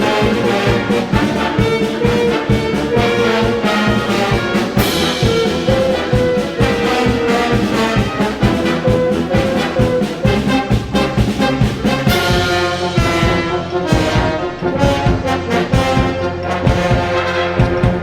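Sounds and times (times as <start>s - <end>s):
low percussion strokes: 0.0s - 18.0s
wind band playing: 0.0s - 18.0s.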